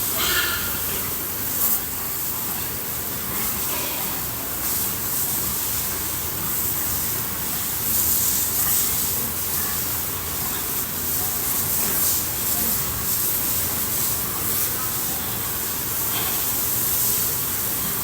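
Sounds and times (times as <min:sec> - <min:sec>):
water spraying from a hose: 0:00.0 - 0:18.0.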